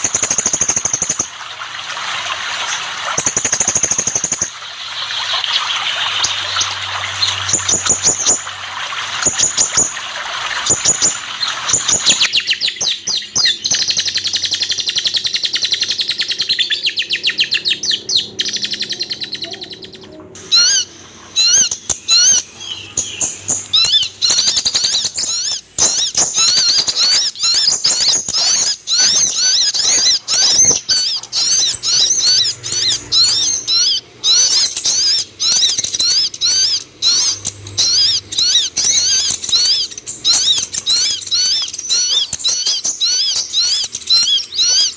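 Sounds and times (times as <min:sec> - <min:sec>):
rushing water noise: 0:00.0 - 0:14.0, 0:20.4 - 0:44.9
bird twittering song: 0:00.0 - 0:44.9.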